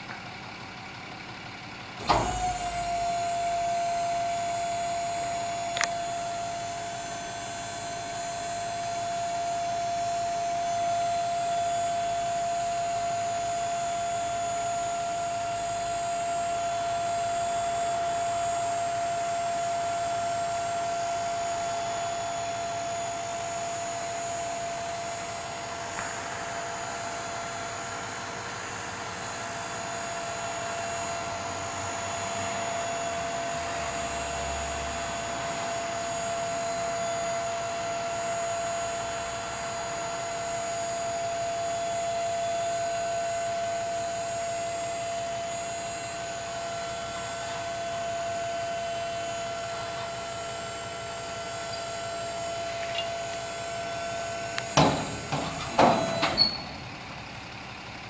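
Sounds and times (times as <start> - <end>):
hydraulic pump motor whine: 2.0 - 57.3.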